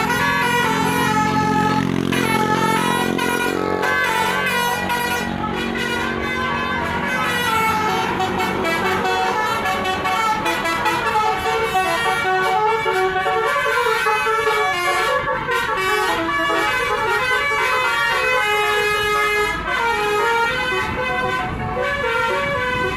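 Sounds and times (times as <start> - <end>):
musical multi-tone air horns: 0.0 - 22.9.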